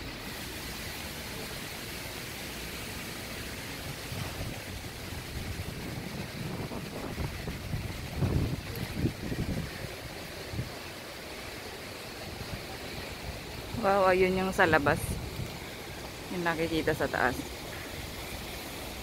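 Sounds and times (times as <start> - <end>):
wind rushing across deck: 0.0 - 19.0
wind gusts buffeting microphone: 3.7 - 19.0.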